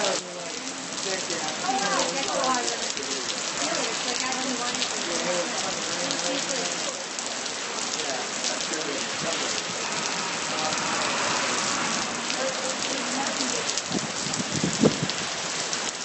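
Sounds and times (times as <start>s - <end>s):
heavy rain on hard surfaces: 0.0s - 16.0s.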